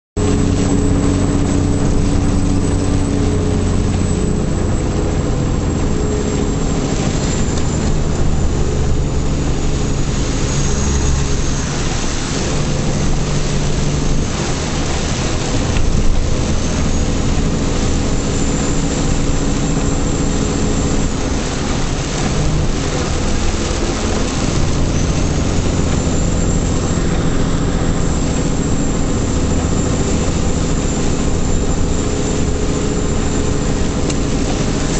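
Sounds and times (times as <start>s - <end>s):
faint high whine: 0.2s - 34.9s
truck engine running: 0.2s - 34.9s
tyre noise on wet road: 0.2s - 34.9s.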